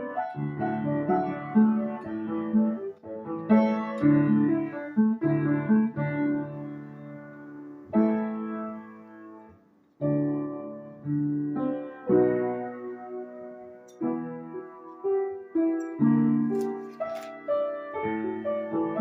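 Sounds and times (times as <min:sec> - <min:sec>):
piano playing sustained chords: 0:00.0 - 0:19.0.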